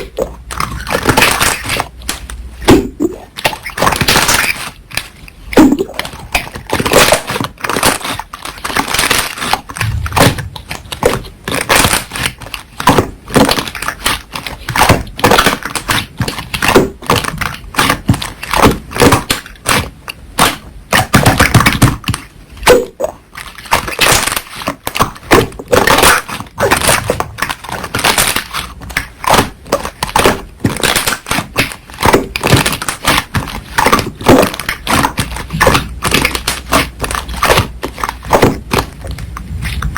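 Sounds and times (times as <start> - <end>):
slime squishing with sticky pops: 0.0 - 39.9.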